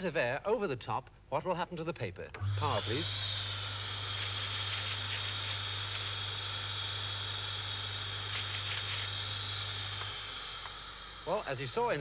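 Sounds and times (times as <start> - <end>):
vacuum cleaner motor humming: 2.4 - 12.0.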